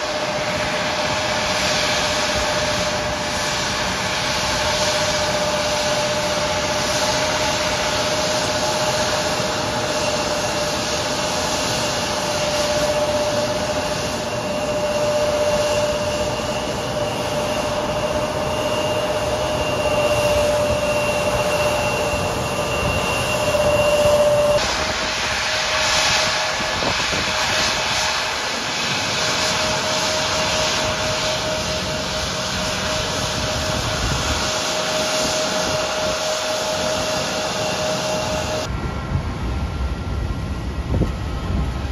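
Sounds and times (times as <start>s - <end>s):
constant rushing noise: 0.0s - 41.9s
jet engines whining at idle: 0.0s - 41.9s.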